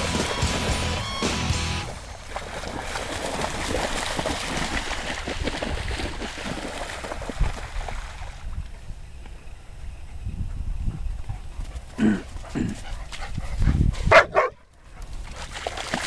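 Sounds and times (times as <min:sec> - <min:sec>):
dogs splashing through water: 0:00.0 - 0:08.7, 0:11.4 - 0:16.0.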